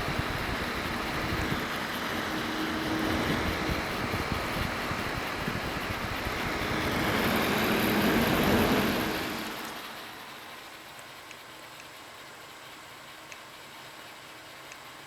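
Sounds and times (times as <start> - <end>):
computer fan rushing: 0.0 - 12.9
faint high whine: 0.0 - 14.7
computer hum: 0.0 - 15.0.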